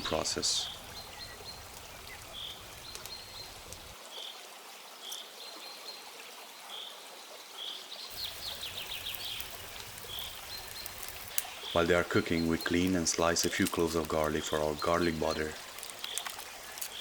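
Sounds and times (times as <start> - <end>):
running water rushing: 0.0 - 5.1, 8.1 - 17.0.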